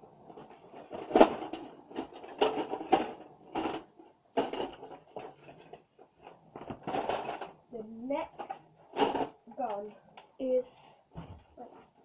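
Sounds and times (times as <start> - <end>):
objects clattering and knocking: 0.0 - 10.1, 11.1 - 12.0.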